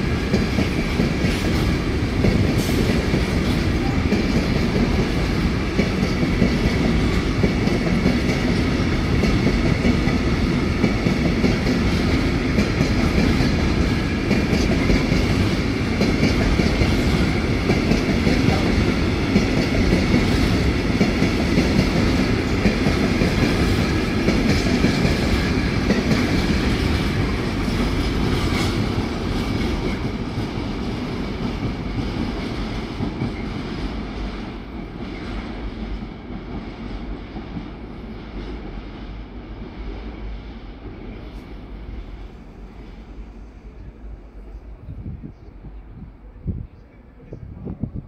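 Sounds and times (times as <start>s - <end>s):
freight train rolling past: 0.0s - 48.0s.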